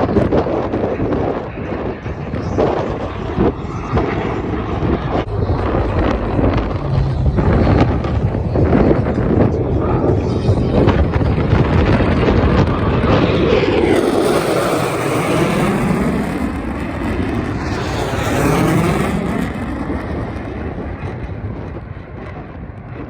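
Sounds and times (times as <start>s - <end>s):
aircraft engine rushing: 0.0s - 23.0s.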